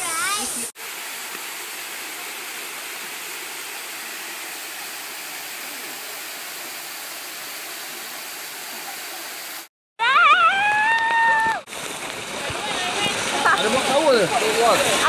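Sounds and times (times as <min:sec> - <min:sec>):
waterfall pouring over rocks: 0:00.0 - 0:09.7, 0:10.3 - 0:15.0.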